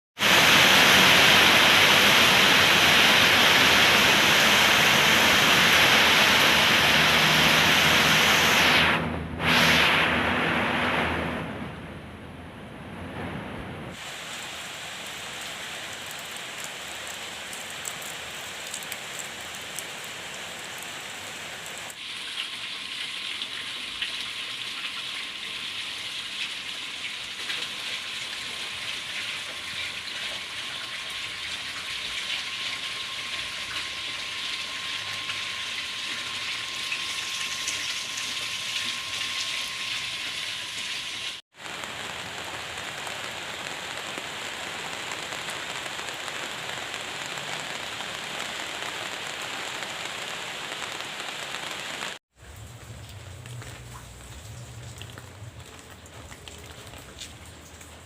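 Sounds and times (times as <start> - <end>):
steady rain falling: 0.2 - 11.9, 13.0 - 40.1, 41.5 - 58.0.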